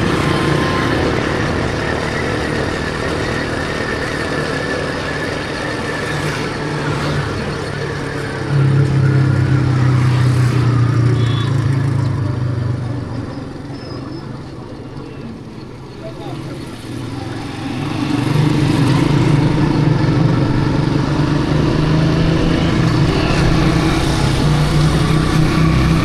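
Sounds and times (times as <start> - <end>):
deep engine drone: 0.0 - 26.0
motorcycle engine running: 0.0 - 26.0
road and wind noise: 0.0 - 26.0.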